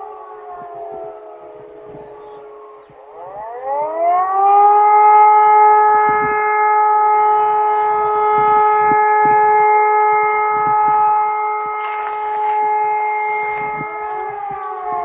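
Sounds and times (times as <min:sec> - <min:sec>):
siren winding up to steady tone: 0:00.0 - 0:15.0.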